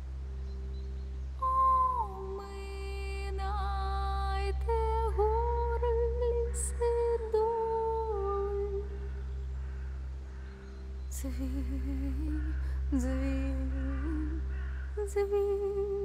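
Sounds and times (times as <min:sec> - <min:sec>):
low drone: 0:00.0 - 0:16.0
voice humming mournful melody: 0:01.4 - 0:09.5, 0:11.1 - 0:16.0.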